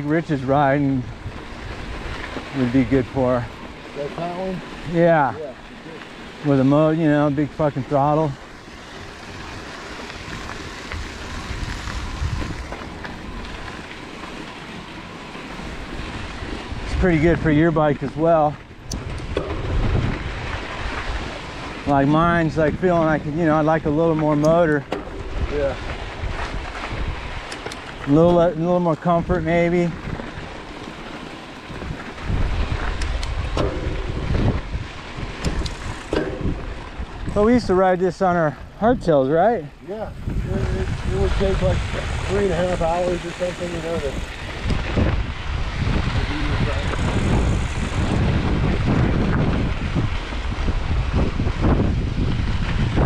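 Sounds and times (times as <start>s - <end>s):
wind buffeting microphone: 0.0s - 5.5s, 6.4s - 53.0s
bike tyres rolling on dirt: 0.0s - 53.0s.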